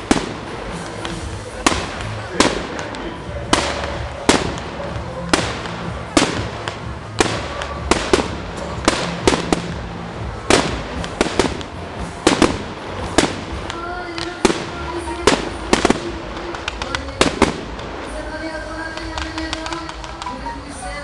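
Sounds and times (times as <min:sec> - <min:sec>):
fireworks shells bursting: 0:00.0 - 0:20.8.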